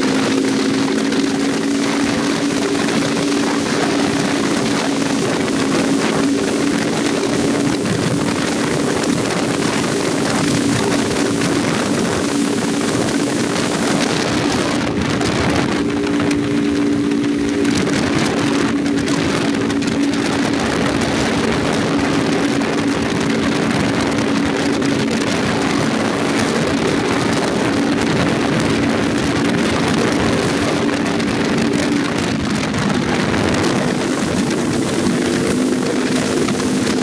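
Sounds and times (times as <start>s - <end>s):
motorcycle engine cruising: 0.0s - 37.0s
wind rushing over microphone: 0.0s - 37.0s.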